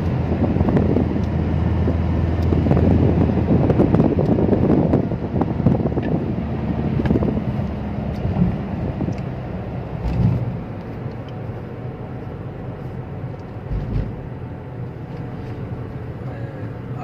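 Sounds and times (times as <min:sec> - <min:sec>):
low bumps: 0:00.0 - 0:11.7, 0:12.8 - 0:16.0
car engine and tyre rumble: 0:00.0 - 0:17.0.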